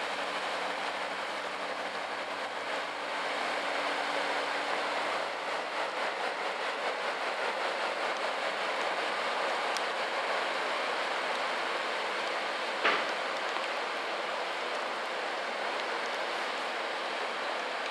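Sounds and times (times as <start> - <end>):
boat engine low hum: 0.0 - 17.9
heavy rain hiss: 0.0 - 17.9.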